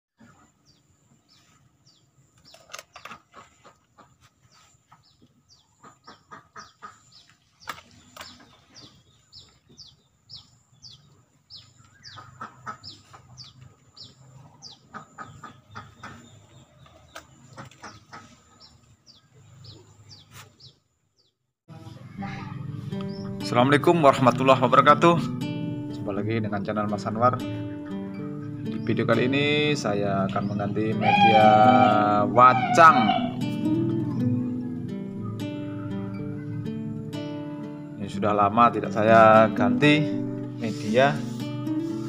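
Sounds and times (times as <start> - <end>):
bird chirping: 0.2 - 24.3, 27.4 - 38.0.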